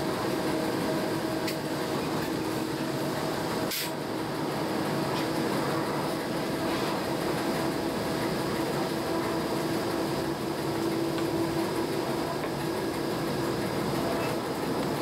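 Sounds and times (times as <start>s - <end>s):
constant hum: 0.0s - 15.0s
electric train rumbling: 0.0s - 15.0s.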